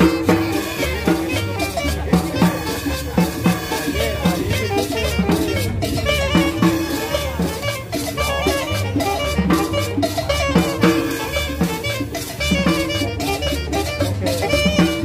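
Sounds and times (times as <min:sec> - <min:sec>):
bass line: 0:00.0 - 0:15.0
drum kit and hand percussion: 0:00.0 - 0:15.0
live band playing dance music: 0:00.0 - 0:15.0.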